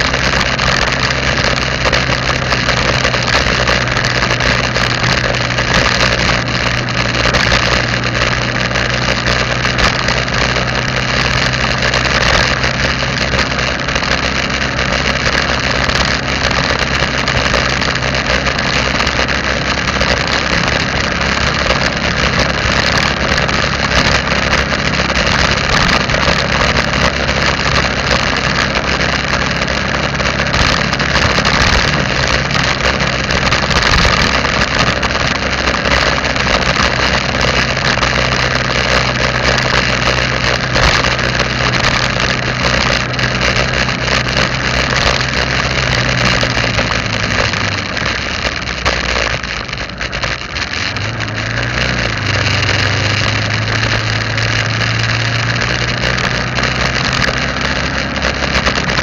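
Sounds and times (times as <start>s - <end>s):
tyre and wind noise: 0.0s - 59.0s
vehicle engine running: 0.0s - 59.0s.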